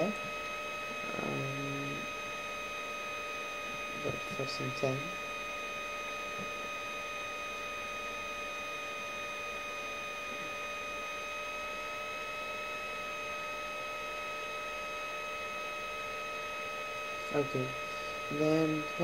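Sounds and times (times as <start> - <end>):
high-pitched fan whine: 0.0 - 19.0
laptop fan whirring: 0.0 - 19.0.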